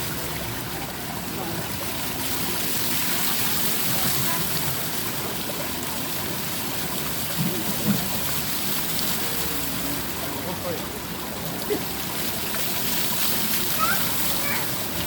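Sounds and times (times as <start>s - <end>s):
water fountain splashing: 0.0s - 15.0s.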